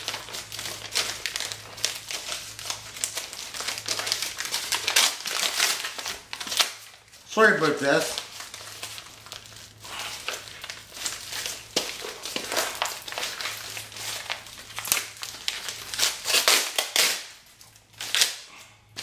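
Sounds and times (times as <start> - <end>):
packing tape and plastic crinkling: 0.0 - 19.0.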